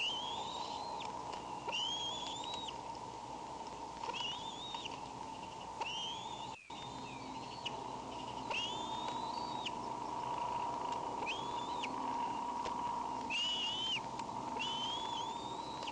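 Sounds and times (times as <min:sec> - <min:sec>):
eagle whistled calls: 0:00.0 - 0:02.8, 0:04.0 - 0:15.9
steady electrical hum: 0:00.0 - 0:15.9.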